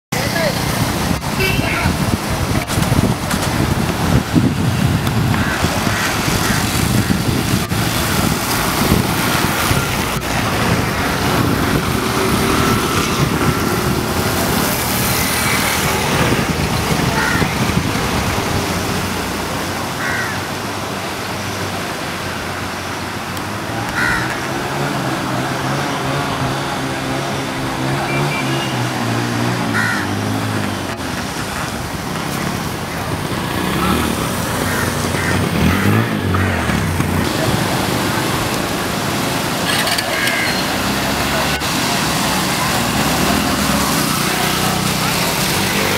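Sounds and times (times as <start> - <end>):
tyres splashing through water: 0.1 - 45.9
vehicle engines running: 0.1 - 45.9.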